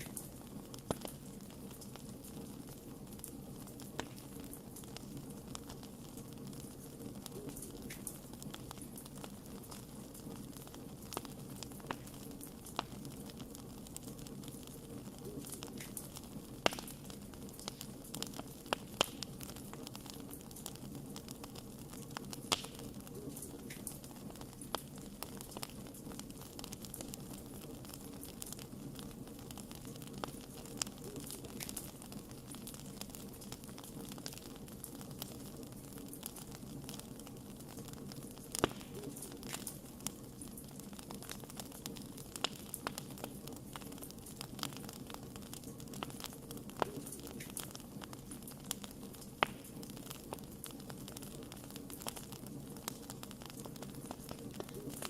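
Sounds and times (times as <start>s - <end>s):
campfire rumble and hiss: 0.0s - 55.0s
fire crackles and pops: 0.0s - 55.0s
loud fire pops: 0.0s - 55.0s.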